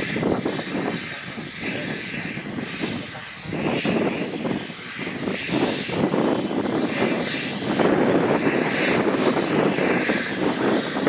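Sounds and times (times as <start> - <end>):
steam locomotives chuffing: 0.0 - 11.0.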